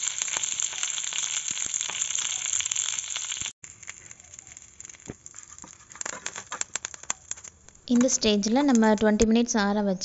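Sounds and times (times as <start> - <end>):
leaves sizzling in hot oil: 0.0 - 9.0.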